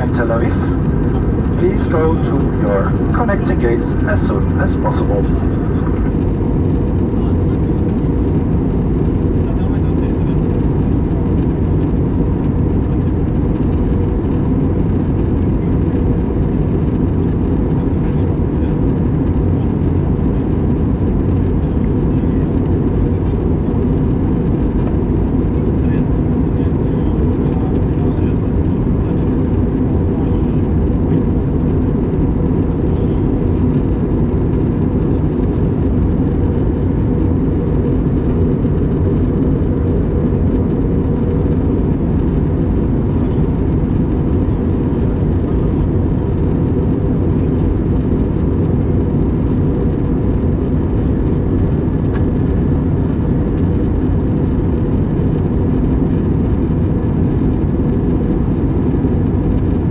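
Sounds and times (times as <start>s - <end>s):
airliner cabin airflow and engine drone: 0.0s - 59.9s.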